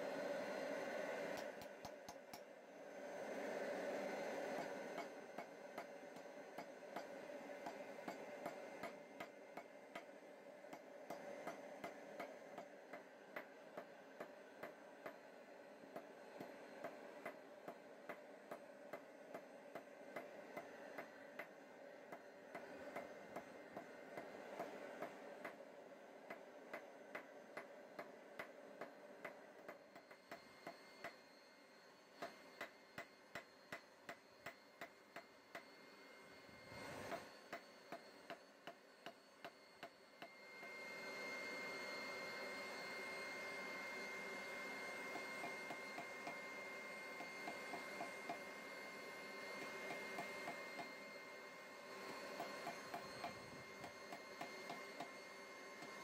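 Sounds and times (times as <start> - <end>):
steady hum with high tone: 0.0 - 56.0.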